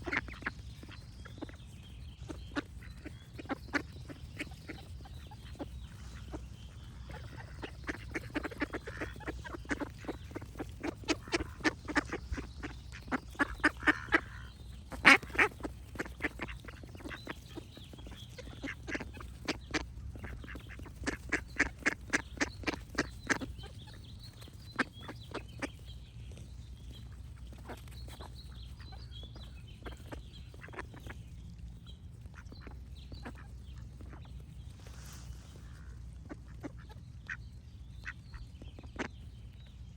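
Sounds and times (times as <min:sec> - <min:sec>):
ducks quacking: 0:00.0 - 0:25.9, 0:26.8 - 0:39.7
steady low rumble: 0:00.0 - 0:39.9.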